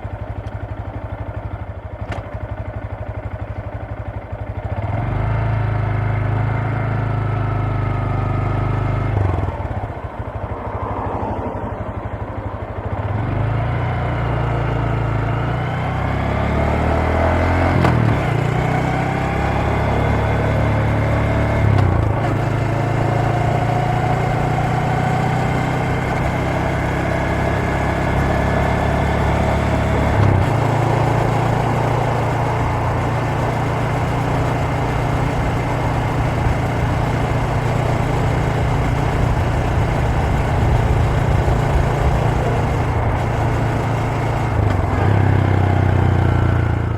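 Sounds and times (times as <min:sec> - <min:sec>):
motorcycle engine and exhaust: 0:00.0 - 0:46.9.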